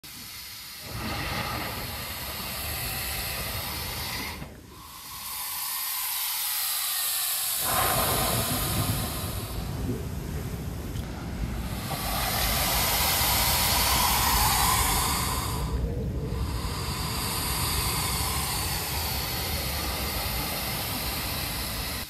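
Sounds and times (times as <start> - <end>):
air hissing from rock vent: 0.0 - 22.0.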